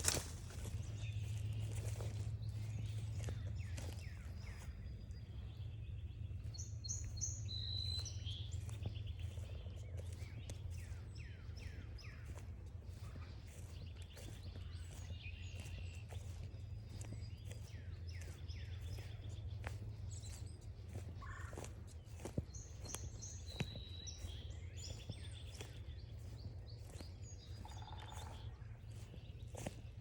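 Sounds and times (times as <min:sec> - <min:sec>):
birds chirping and calling: 0:00.0 - 0:30.0
footsteps on trail: 0:00.0 - 0:30.0.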